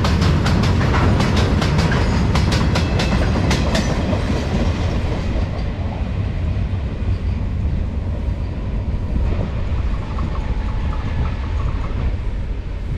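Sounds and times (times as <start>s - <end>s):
freight train wagons rolling on rails: 0.0s - 12.9s.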